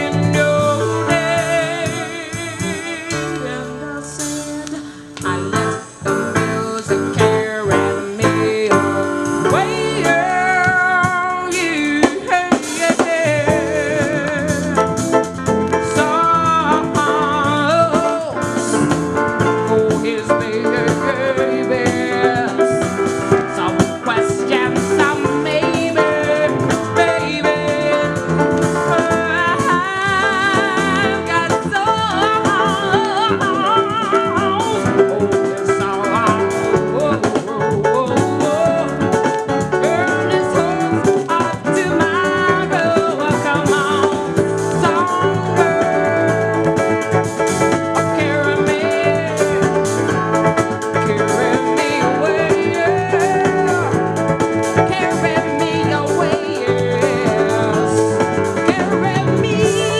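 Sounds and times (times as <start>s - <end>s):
woman singing with vibrato: 0.0s - 47.2s, 48.0s - 50.2s, 50.8s - 59.9s
jazz band playing: 0.0s - 59.9s.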